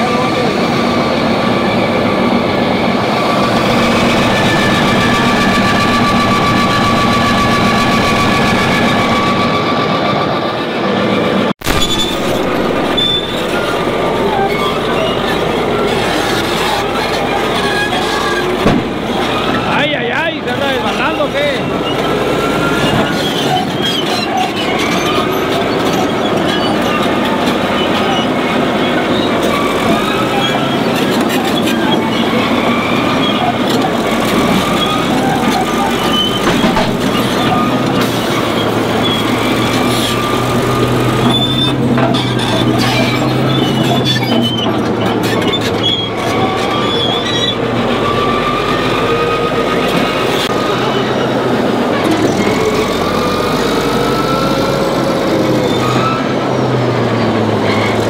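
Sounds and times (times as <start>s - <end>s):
clanking of steel tracks: 0.0s - 58.0s
diesel engine running: 0.0s - 58.0s
high track squeals: 0.0s - 58.0s.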